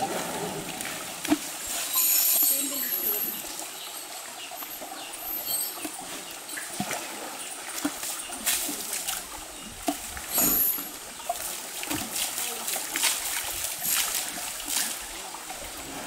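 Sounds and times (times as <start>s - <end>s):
shallow river trickling: 0.0s - 16.0s
water splashing: 0.0s - 16.0s.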